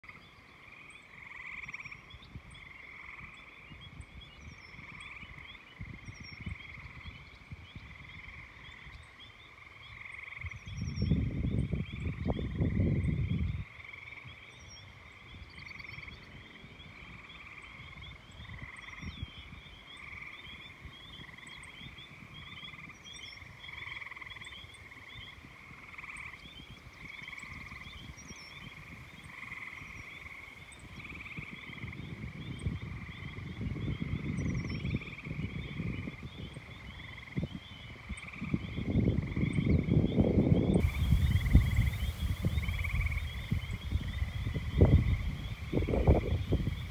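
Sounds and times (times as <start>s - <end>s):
frogs calling: 0.0s - 46.9s.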